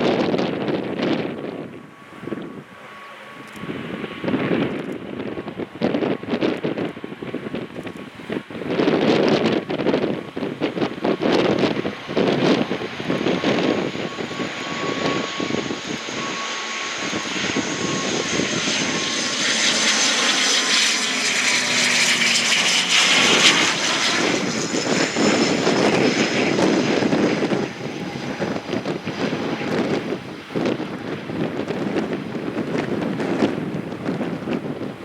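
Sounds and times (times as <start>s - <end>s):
airliner engines whine: 0.0s - 35.0s
wind buffeting microphone: 0.0s - 35.0s.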